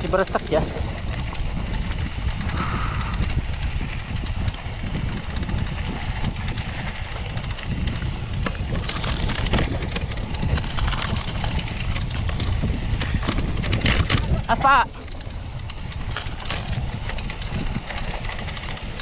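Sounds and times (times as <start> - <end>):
bike rattling over bumps: 0.0 - 19.0
bike tyres on dirt trail: 0.0 - 19.0
wind buffeting microphone: 0.0 - 19.0.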